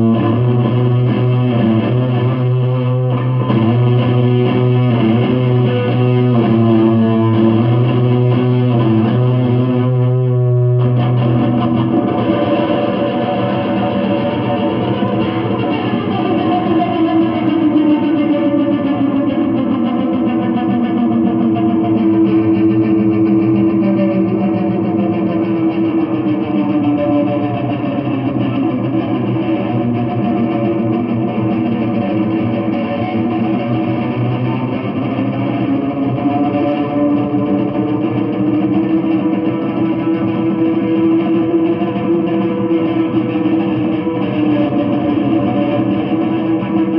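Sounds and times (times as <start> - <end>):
electric guitar through amplifier: 0.0 - 46.9.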